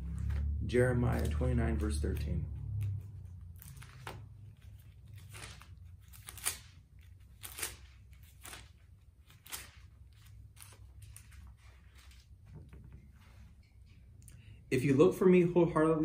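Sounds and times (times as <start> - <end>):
paper pages rustling: 0.0 - 13.4
low steady hum: 0.0 - 16.0.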